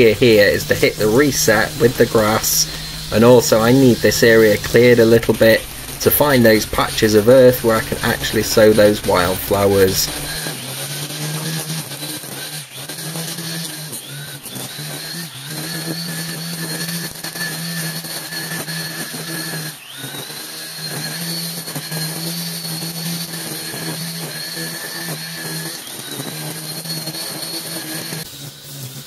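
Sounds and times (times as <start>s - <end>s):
string trimmer cutting grass: 0.0s - 29.0s.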